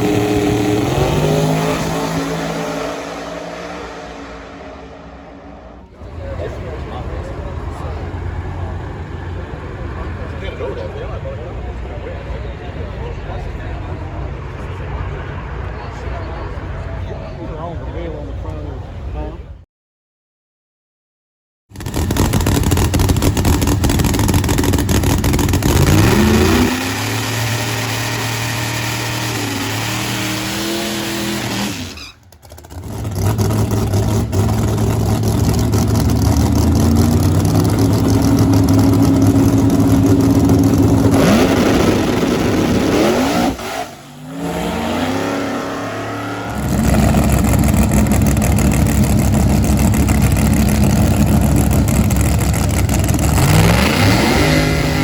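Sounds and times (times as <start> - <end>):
race car engine revving: 0.0 - 17.1, 21.8 - 55.0.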